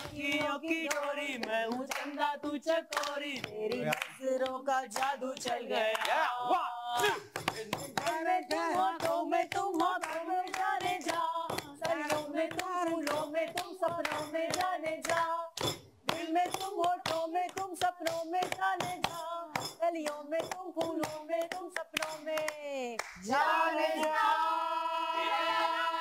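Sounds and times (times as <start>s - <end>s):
hand claps: 0.0s - 6.2s, 6.9s - 23.2s
person singing wordless tune: 0.0s - 26.0s.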